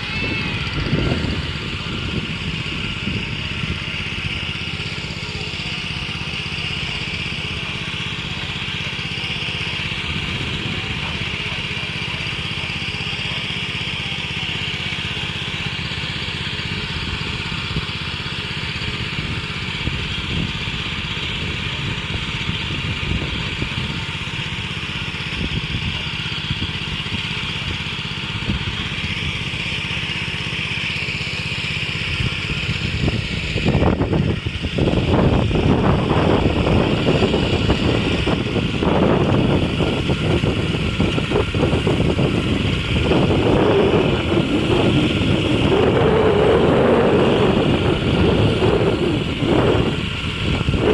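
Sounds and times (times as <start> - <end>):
wind buffeting microphone: 0.0 - 30.9, 31.6 - 50.9
crop sprayer engine running: 0.0 - 50.9.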